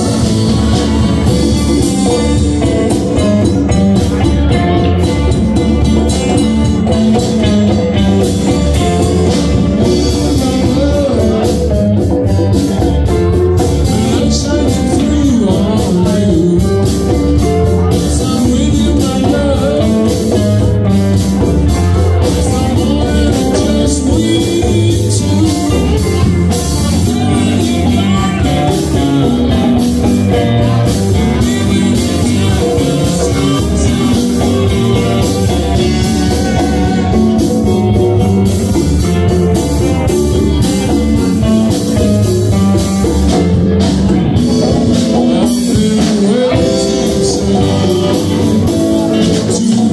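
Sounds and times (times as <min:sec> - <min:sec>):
bass: 0:00.0 - 0:49.9
congas: 0:00.0 - 0:49.9
drum kit: 0:00.0 - 0:49.9
electric guitars: 0:00.0 - 0:49.9
person singing: 0:00.0 - 0:49.9.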